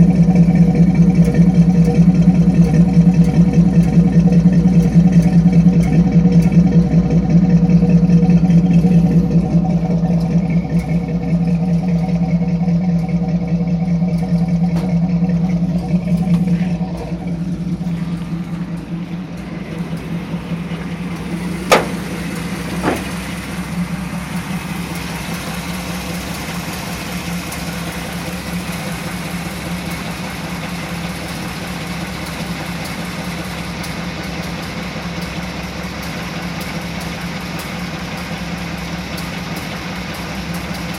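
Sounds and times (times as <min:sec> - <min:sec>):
engine idling unevenly: 0:00.0 - 0:40.9.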